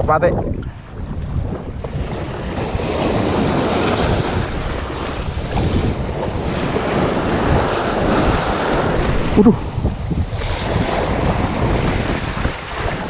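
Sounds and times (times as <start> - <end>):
wind buffeting microphone: 0.0 - 13.0
waves splashing against breakwater: 0.6 - 13.0.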